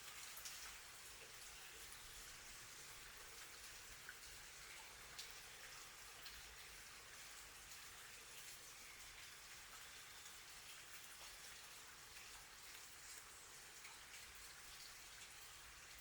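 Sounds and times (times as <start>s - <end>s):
faint rain: 0.0s - 16.0s.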